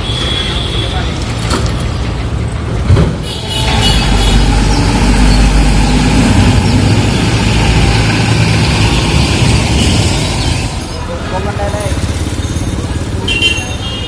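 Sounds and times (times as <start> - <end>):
truck diesel engine running: 1.7 - 13.2.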